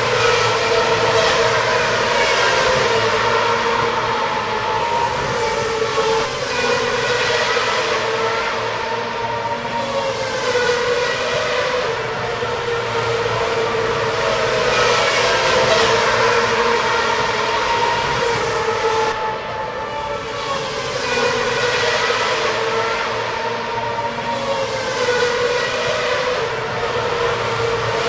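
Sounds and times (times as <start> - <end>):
racing car engines at high revs: 0.0 - 28.0.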